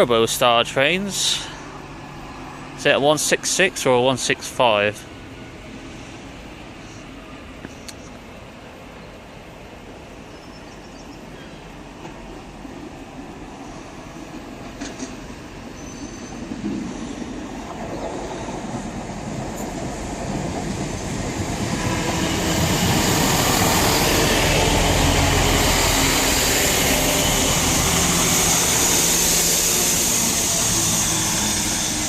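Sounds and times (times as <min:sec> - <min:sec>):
diesel train running into platform: 0:00.0 - 0:32.0.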